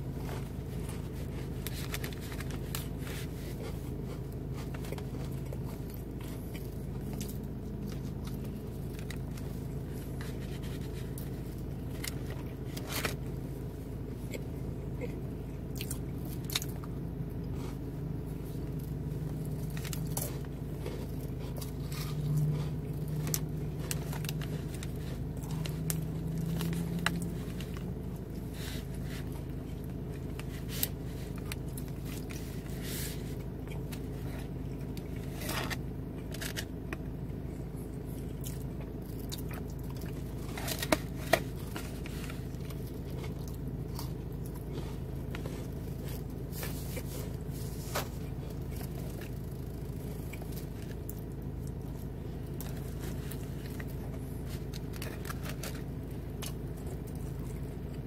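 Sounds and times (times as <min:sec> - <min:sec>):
chewing with crunches: 0:00.0 - 0:58.0
steady low hum: 0:00.0 - 0:58.0.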